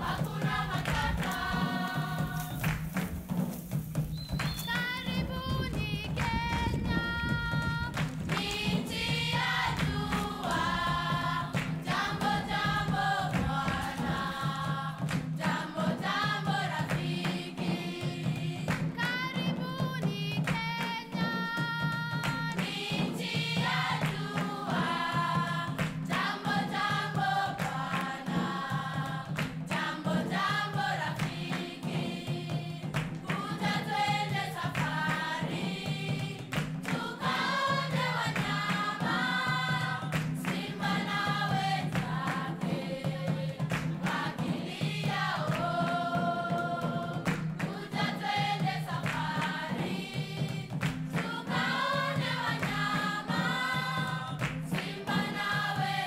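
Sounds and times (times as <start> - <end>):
choir singing: 0.0 - 2.8, 4.6 - 56.0.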